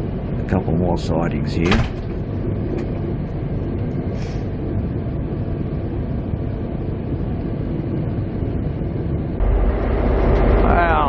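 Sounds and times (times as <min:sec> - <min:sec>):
passenger train rumbling: 0:00.0 - 0:11.0.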